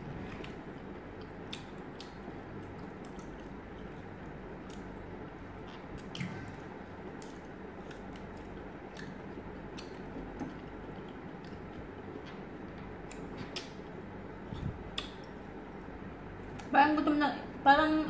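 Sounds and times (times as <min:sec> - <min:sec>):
people chewing: 0:00.0 - 0:15.8.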